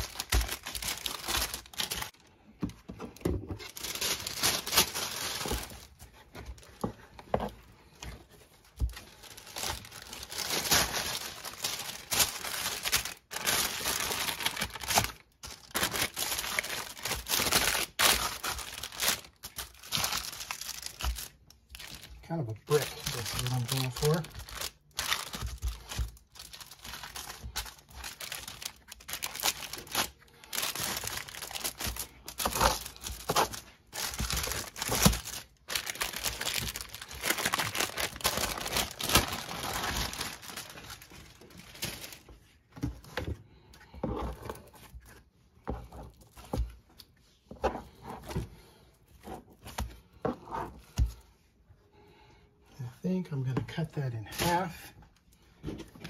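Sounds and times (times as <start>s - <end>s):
paper and plastic wrap crinkling: 0.0s - 43.3s, 53.7s - 56.0s.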